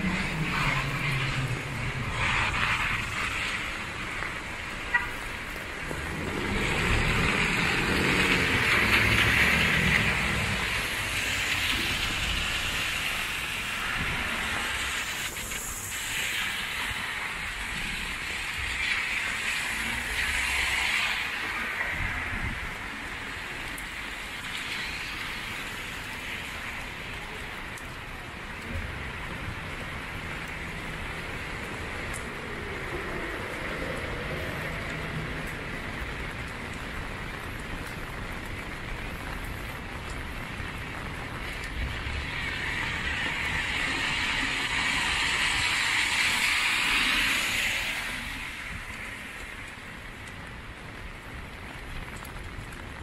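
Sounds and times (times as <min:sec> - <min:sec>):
rain on an umbrella: 0:00.0 - 0:53.0
rain on wet pavement: 0:00.0 - 0:53.0.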